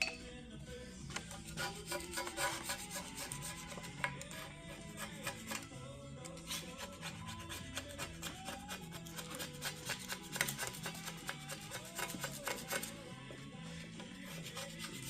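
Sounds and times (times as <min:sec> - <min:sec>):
background music: 0:00.0 - 0:15.0
tool scraping back and forth: 0:01.0 - 0:15.0.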